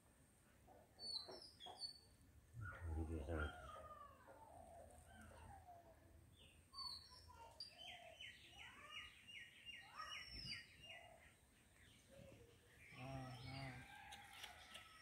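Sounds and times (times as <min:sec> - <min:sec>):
faint birdsong: 0:00.1 - 0:15.0.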